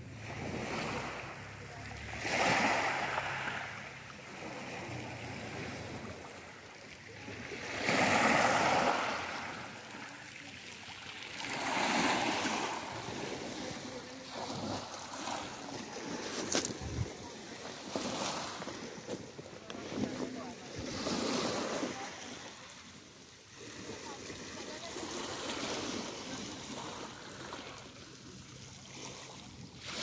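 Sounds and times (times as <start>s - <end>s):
sea waves breaking on shore: 0.0s - 30.0s.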